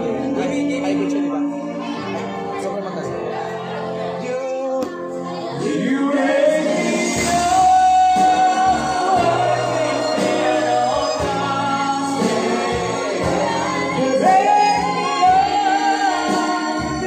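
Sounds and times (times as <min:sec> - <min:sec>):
musical backing: 0:00.0 - 0:17.0.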